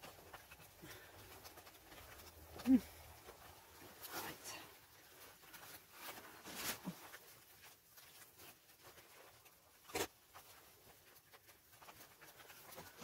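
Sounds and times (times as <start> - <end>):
clothing rustling: 0.0 - 13.0.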